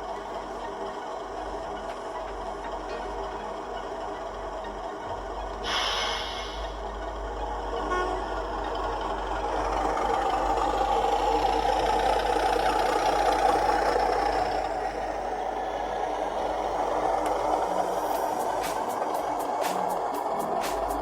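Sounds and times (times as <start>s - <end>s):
diesel engine sound through small speakers: 0.0s - 21.0s.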